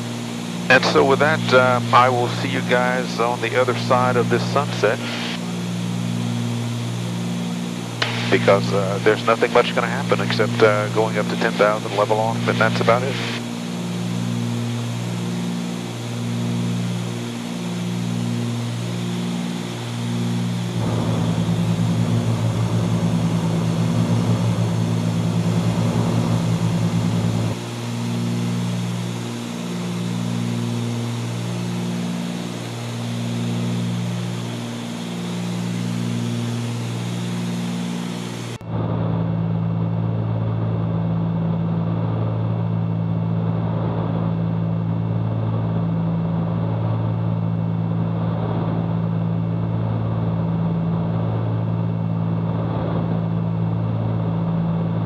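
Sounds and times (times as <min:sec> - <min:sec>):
aircraft engines and propellers droning: 0:00.0 - 0:55.0.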